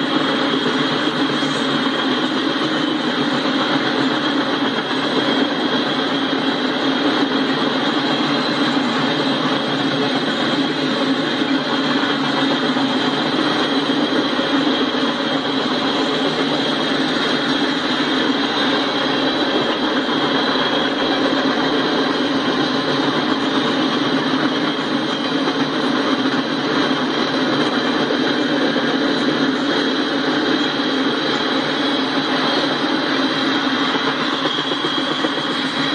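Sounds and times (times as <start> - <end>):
freight train wheels on rail: 0.0 - 35.9.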